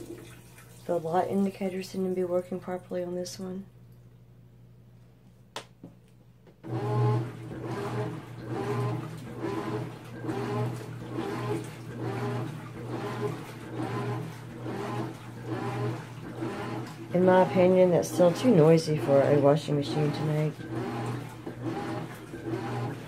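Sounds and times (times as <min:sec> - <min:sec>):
washing machine agitating: 0:00.0 - 0:03.6, 0:06.6 - 0:23.0.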